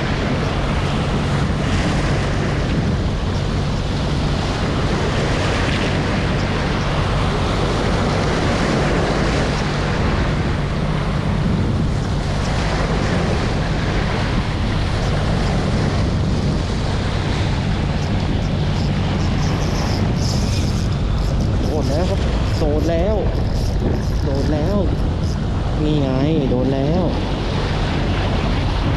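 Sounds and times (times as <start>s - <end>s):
sea waves: 0.0s - 28.9s
wind buffeting microphone: 0.0s - 28.9s.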